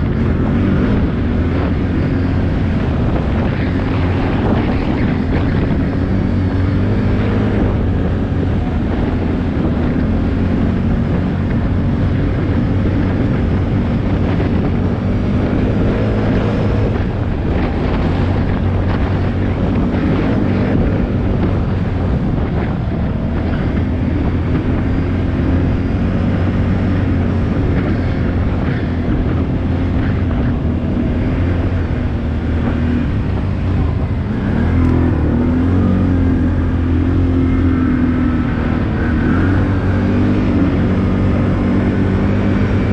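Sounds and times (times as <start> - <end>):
atv engine running: 0.0 - 42.9
wind buffeting microphone: 0.0 - 42.9.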